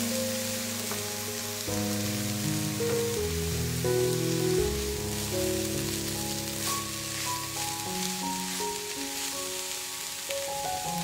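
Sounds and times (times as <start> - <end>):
background music with held notes: 0.0 - 11.0
food sizzling in a pan: 0.0 - 11.0.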